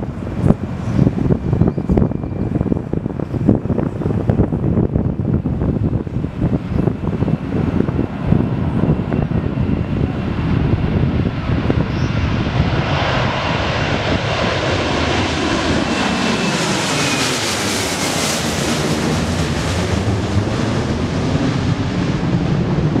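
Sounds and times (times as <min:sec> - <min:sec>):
jet engine roar overhead: 0:00.0 - 0:23.0.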